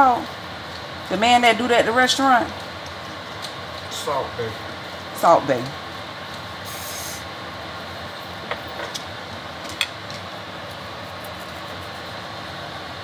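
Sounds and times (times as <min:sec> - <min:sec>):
steady background hum and hiss: 0:00.0 - 0:13.0.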